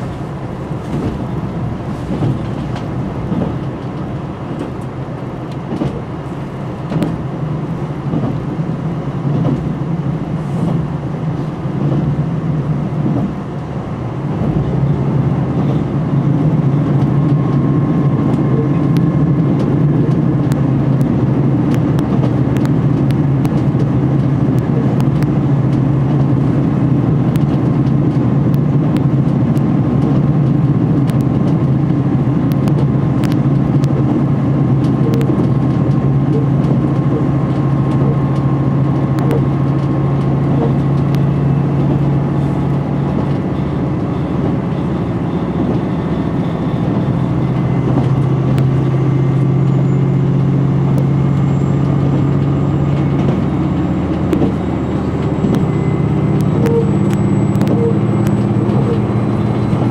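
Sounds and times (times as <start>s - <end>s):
train engine drone: 0.0s - 59.9s.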